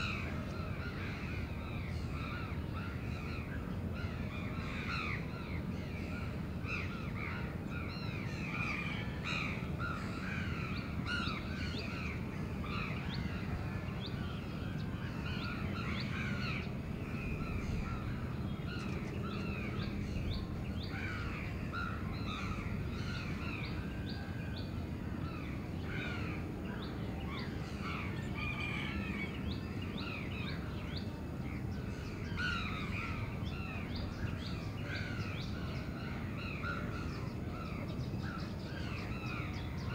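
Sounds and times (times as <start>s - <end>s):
low rumble of city sound: 0.0s - 39.9s.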